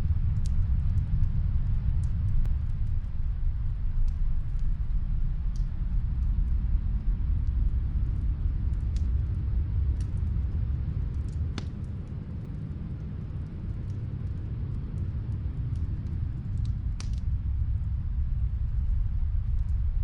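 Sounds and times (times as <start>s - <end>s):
storm wind rumbling: 0.0s - 20.0s
wood fire crackling: 0.0s - 20.0s.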